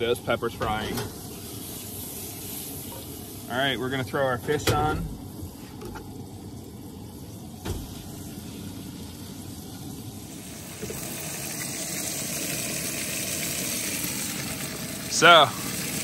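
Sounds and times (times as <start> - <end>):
fish and peppers sizzling in oil: 0.0 - 4.6, 5.2 - 16.0.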